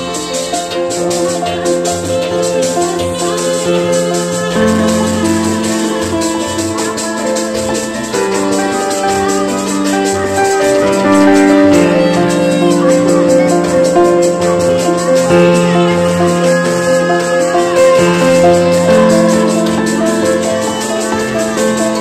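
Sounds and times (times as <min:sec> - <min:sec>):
fast rattling beat: 0:00.0 - 0:22.0
keyboard melody: 0:00.0 - 0:22.0.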